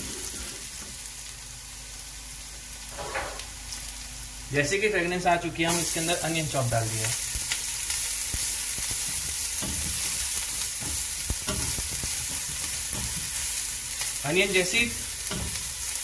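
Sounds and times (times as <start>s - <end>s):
onion and garlic sizzling in oil: 0.0s - 16.0s.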